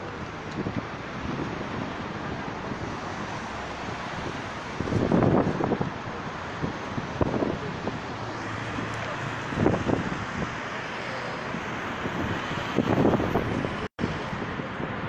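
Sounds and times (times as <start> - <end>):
road traffic noise: 0.0 - 15.0
wind buffeting microphone: 0.0 - 15.0.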